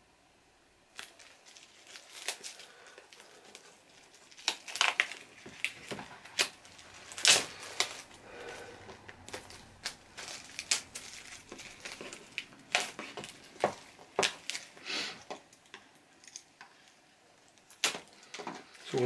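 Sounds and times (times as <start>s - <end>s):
shrink-wrap crinkling and tearing: 0.9s - 19.0s.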